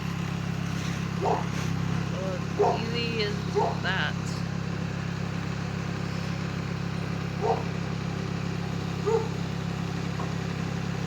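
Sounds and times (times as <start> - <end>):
heavy machine engine rumbling: 0.0 - 11.0.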